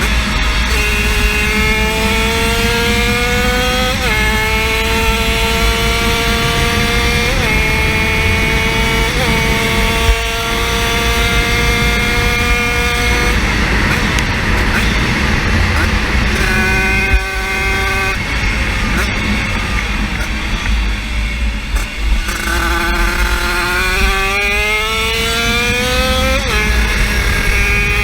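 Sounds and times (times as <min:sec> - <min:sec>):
small engine running hard: 0:00.0 - 0:28.0.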